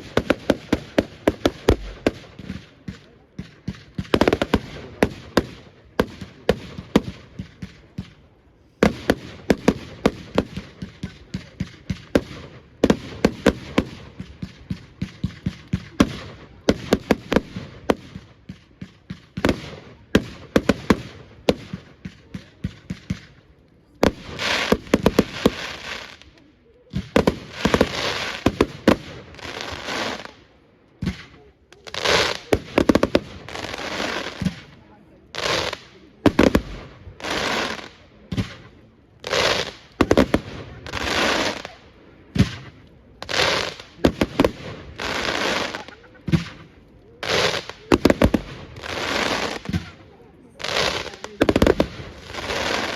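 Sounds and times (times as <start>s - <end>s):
fireworks banging: 0.0s - 52.9s
fireworks crackling: 0.0s - 52.9s.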